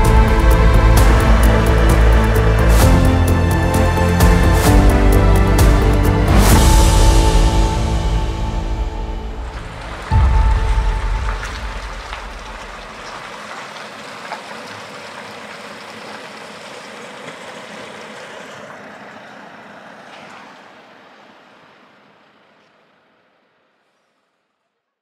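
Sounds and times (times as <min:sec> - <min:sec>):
steady rushing noise: 0:00.0 - 0:23.8.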